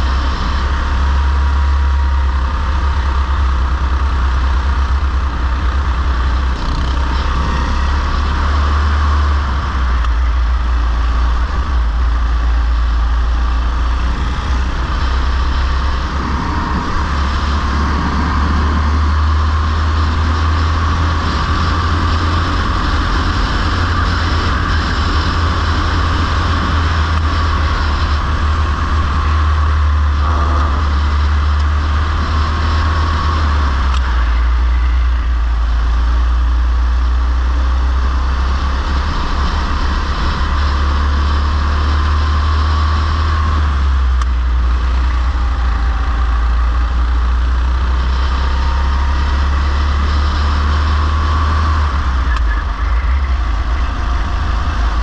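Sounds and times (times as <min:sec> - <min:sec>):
go-kart engine racing: 0:00.0 - 0:55.0
heavy low rumble: 0:00.0 - 0:55.0.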